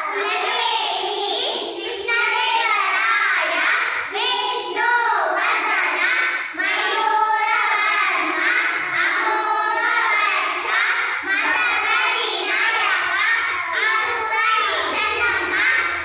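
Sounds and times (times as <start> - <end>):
girls singing in unison: 0.0 - 16.0.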